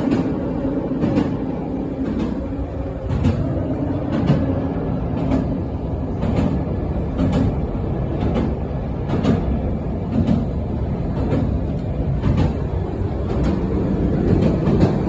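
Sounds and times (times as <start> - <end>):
train rumbling on track: 0.0 - 15.0
wheels clacking on rail joints: 0.0 - 15.0.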